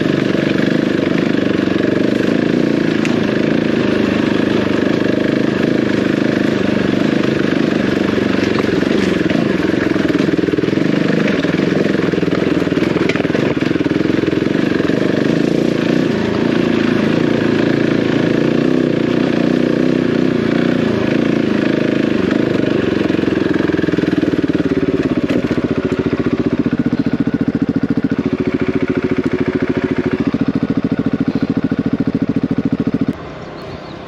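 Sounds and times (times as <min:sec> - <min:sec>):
motorcycle engine thumping: 0:00.0 - 0:18.0, 0:21.5 - 0:33.2.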